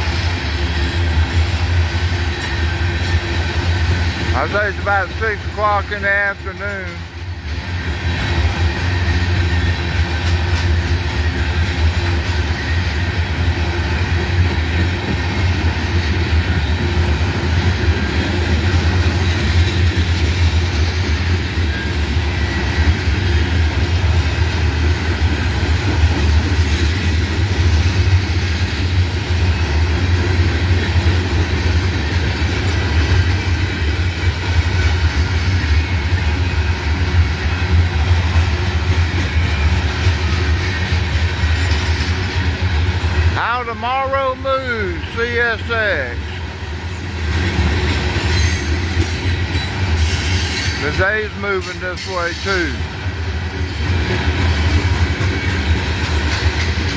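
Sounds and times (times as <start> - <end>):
steel wheels rumbling on rails: 0.0 - 56.9.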